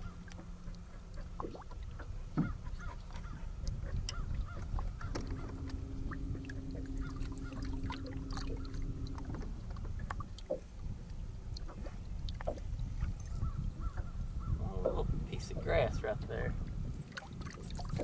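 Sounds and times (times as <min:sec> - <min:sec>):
continuous low rumble: 0:00.0 - 0:18.0
steady low hum: 0:00.0 - 0:18.0.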